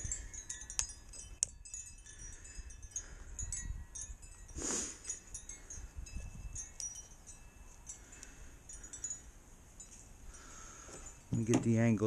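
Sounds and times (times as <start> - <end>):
wind chimes tinkling: 0.0 - 12.0.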